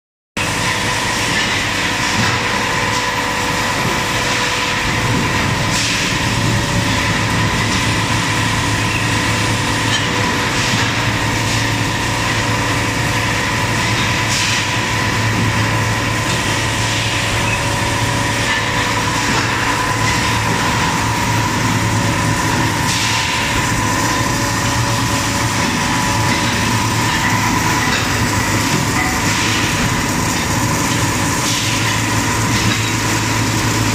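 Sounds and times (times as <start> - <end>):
machine mechanical hum: 0.4 - 33.9.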